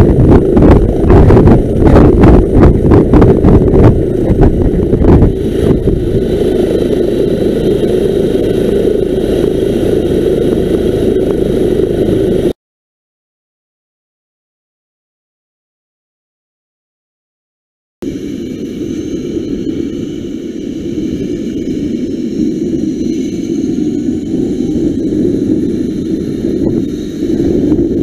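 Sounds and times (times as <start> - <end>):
helicopter turbines running: 0.0 - 12.6, 18.0 - 28.0
rotor wash buffeting microphone: 0.0 - 12.6, 18.0 - 28.0.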